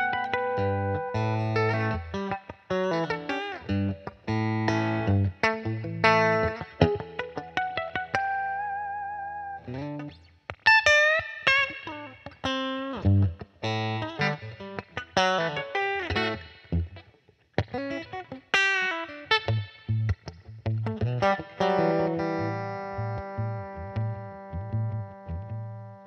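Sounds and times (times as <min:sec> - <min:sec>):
electric guitar playing blues: 0:00.0 - 0:26.0.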